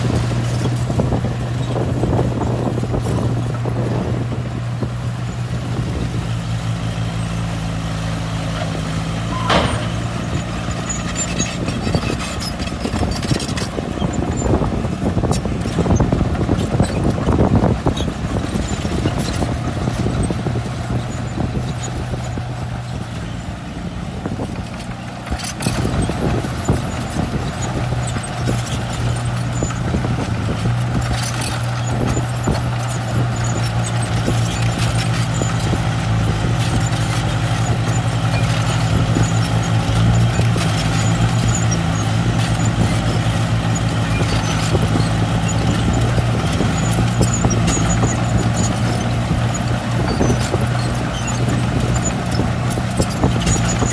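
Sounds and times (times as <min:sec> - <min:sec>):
clanks and rattles: 0:00.0 - 0:04.4, 0:08.5 - 0:53.9
diesel earthmoving machinery running: 0:00.0 - 0:53.9.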